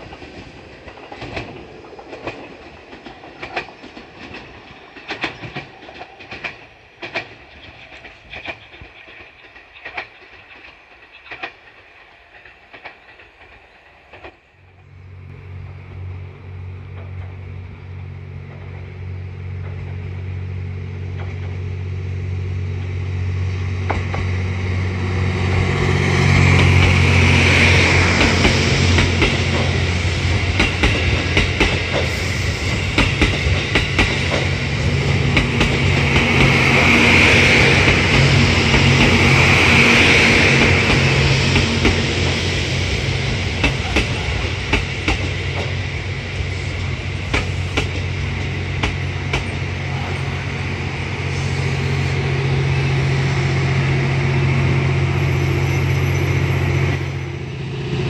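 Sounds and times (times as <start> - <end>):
train passing close by: 0.0 - 58.0.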